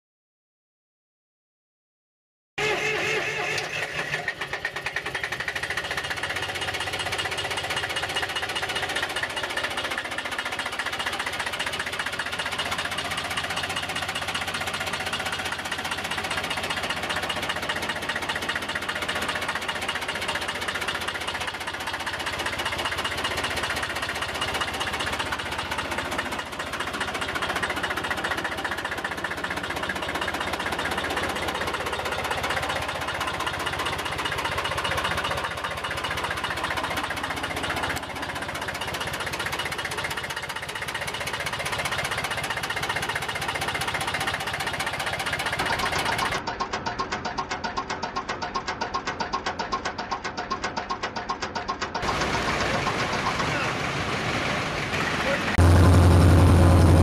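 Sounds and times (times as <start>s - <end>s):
tractor diesel engine knocking: 2.6s - 57.0s.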